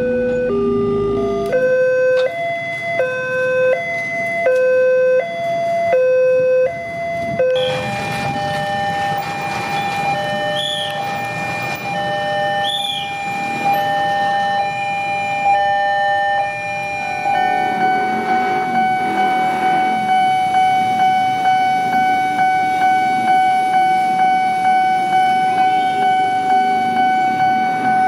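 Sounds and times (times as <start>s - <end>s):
crossing signal tones: 0.0s - 28.0s
road traffic noise: 0.0s - 28.0s
two-tone crossing alarm: 0.0s - 28.0s.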